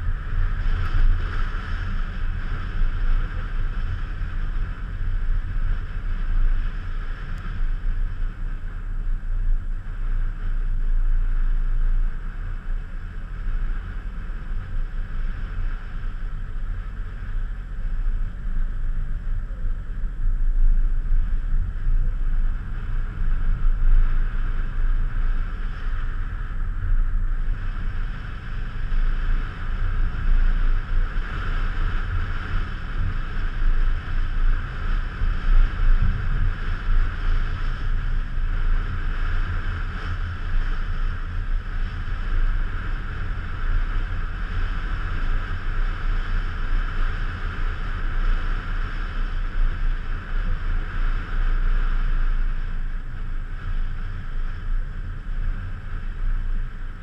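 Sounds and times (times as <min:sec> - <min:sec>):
car engine and tyres rumbling: 0:00.0 - 0:57.0
wind buffeting microphone: 0:00.0 - 0:57.0.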